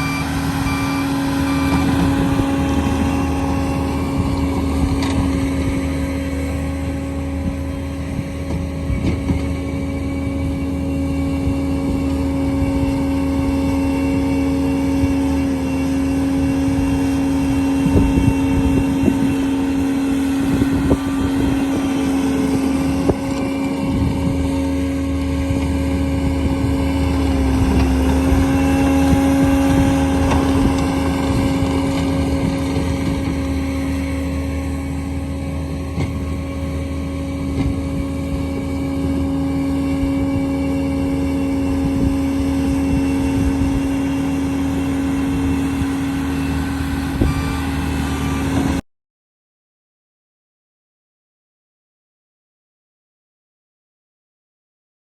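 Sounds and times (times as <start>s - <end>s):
diesel engine at high throttle: 0.0s - 48.8s.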